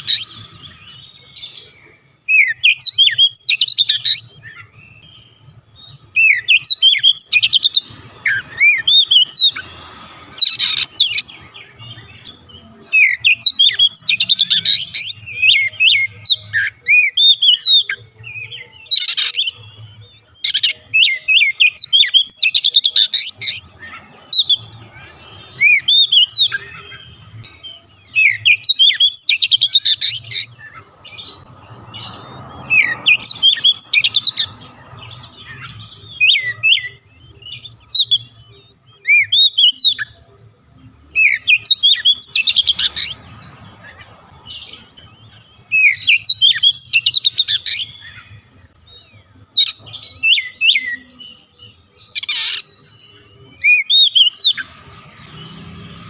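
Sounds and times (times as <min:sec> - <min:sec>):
songbird whistling and trilling: 0:00.0 - 0:09.7, 0:10.3 - 0:55.8.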